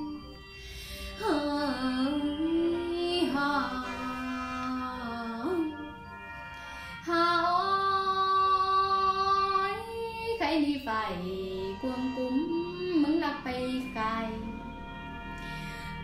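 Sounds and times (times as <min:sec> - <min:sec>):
woman singing: 0:00.0 - 0:00.4, 0:01.1 - 0:06.1, 0:06.9 - 0:14.8
backing track music: 0:00.0 - 0:16.0.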